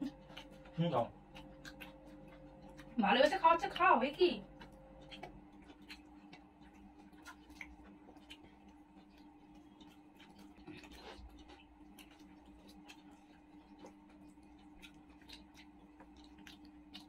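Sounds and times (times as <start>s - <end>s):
small clicks of eating by hand: 0.0s - 17.0s.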